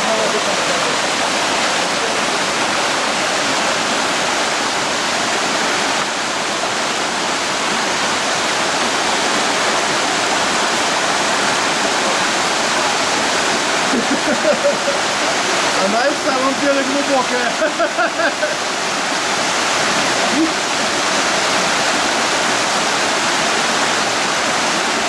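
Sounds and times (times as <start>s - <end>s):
stream rushing over rocks: 0.0s - 25.0s.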